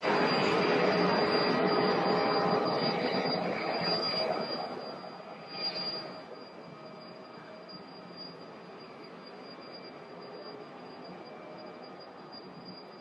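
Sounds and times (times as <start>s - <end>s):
jet engine roar with high whine: 0.0s - 13.0s.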